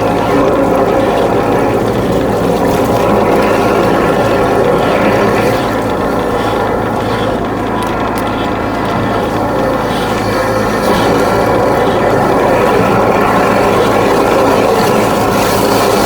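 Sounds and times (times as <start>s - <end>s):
pump motor humming: 0.0s - 16.0s
water jetting through pipe: 0.0s - 16.0s.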